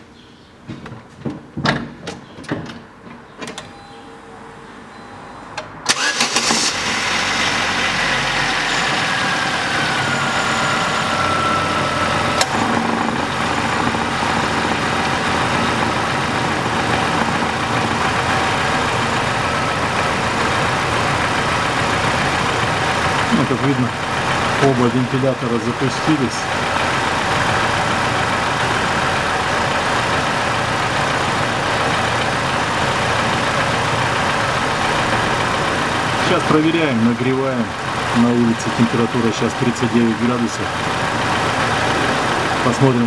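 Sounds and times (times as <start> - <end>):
car engine starting and idling: 3.6 - 43.0.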